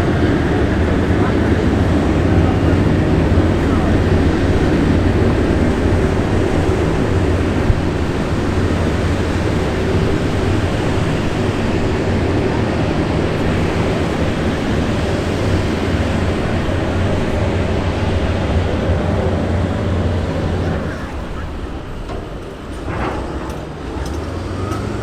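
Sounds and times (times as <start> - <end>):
wide rushing water noise: 0.0 - 22.5
low engine drone: 0.0 - 23.9.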